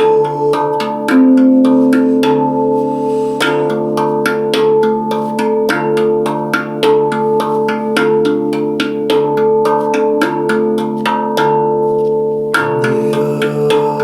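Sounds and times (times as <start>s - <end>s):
handpan notes ringing: 0.0s - 14.0s.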